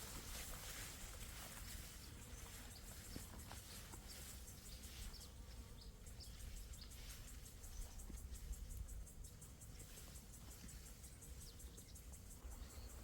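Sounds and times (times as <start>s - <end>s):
insects: 0.0s - 13.0s.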